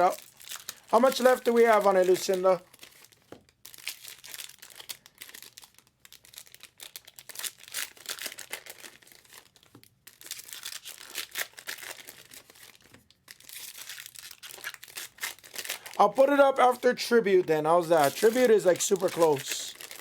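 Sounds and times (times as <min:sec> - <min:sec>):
card pack wrappers crinkling and tearing: 0:00.0 - 0:20.0.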